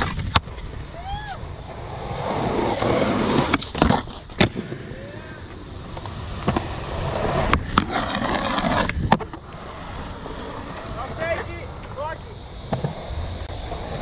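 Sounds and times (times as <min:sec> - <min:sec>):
skateboard wheels rolling on concrete: 0:00.0 - 0:14.0
skateboard clacking: 0:01.6 - 0:14.0.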